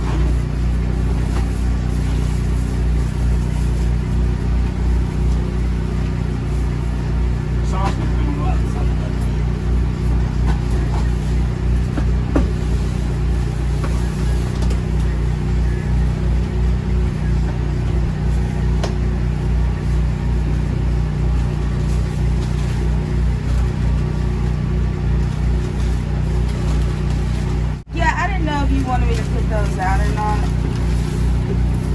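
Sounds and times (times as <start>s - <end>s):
low pulsing engine drone: 0.0s - 31.9s.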